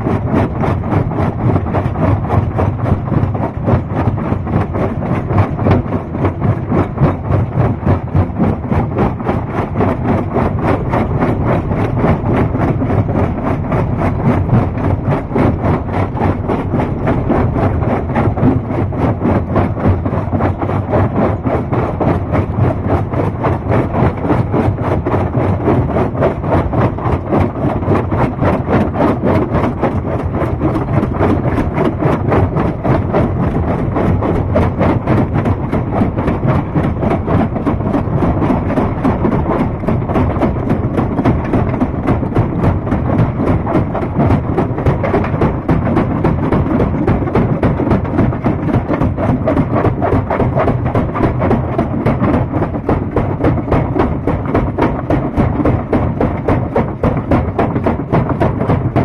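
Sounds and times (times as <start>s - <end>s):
rock crushing machine running: 0.1s - 59.0s.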